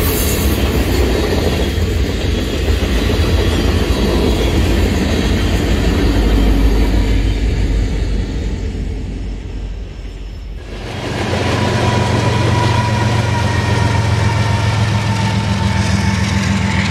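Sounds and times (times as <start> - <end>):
diesel locomotive engine running: 0.0 - 16.9
freight train rolling past: 0.0 - 16.9.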